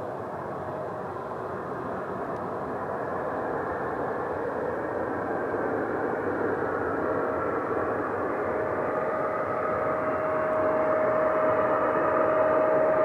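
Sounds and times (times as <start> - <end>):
jet engines rumbling: 0.0 - 13.0
turbine whine: 0.0 - 13.0.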